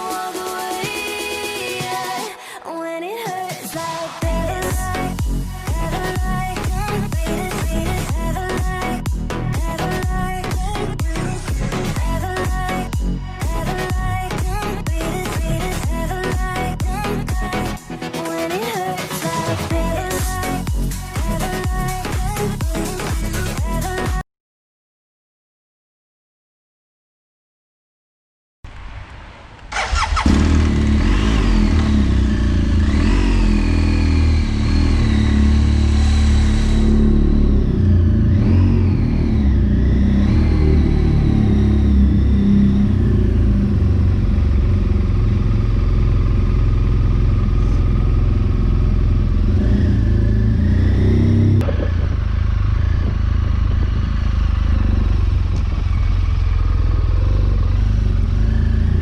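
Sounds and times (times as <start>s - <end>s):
motorcycle engine starting and revving: 4.2s - 17.8s, 18.6s - 24.2s, 29.7s - 59.0s.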